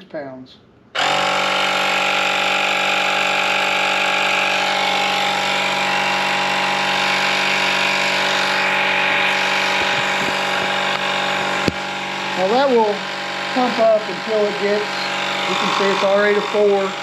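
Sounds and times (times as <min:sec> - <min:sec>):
tire inflator humming: 0:00.9 - 0:17.0.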